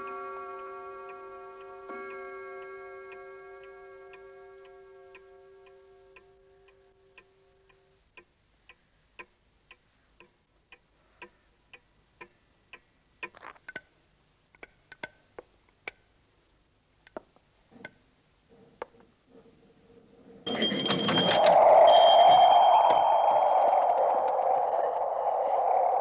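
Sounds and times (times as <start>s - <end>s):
pendulum clock ticking: 0.0s - 19.6s, 20.5s - 26.0s.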